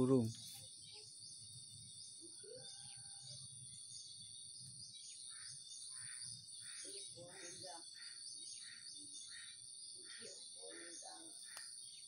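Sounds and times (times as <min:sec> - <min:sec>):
faint bird chirps: 0:00.0 - 0:12.0
insects chirping: 0:00.0 - 0:12.0.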